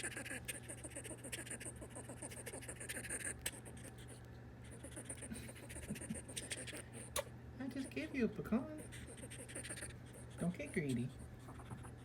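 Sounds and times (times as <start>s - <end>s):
squirrel gnawing a nut: 0.0s - 12.0s.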